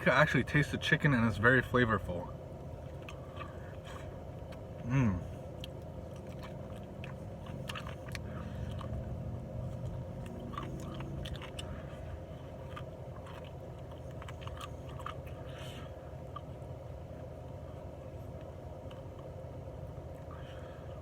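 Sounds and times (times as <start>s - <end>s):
person chewing crispy food: 1.6s - 21.0s.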